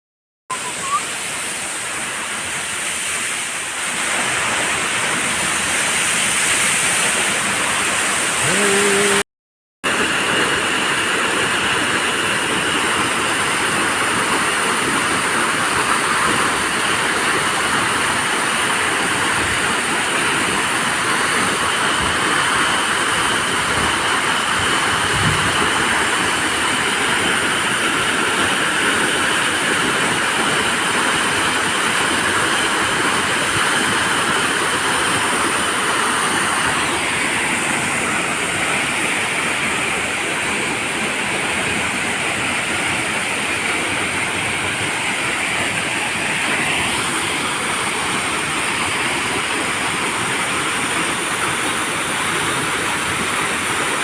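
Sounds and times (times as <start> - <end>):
waterfall rushing: 0.5 - 9.2, 9.9 - 54.0.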